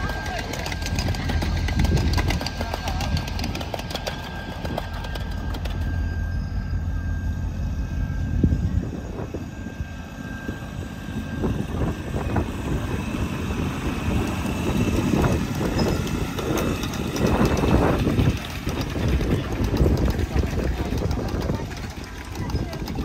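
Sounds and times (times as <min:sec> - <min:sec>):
wheels clattering on rails: 0:00.0 - 0:07.0, 0:11.4 - 0:23.0
miniature train rumbling: 0:00.0 - 0:23.0.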